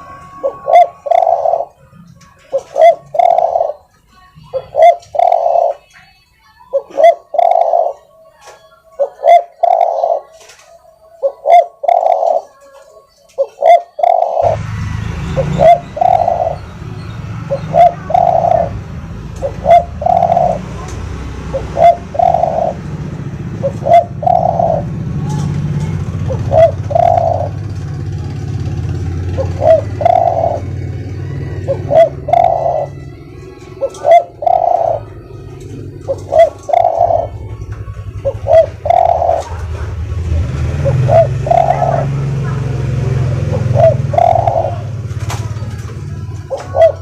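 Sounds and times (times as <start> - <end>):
dove cooing: 0.0 - 14.6, 15.4 - 47.0.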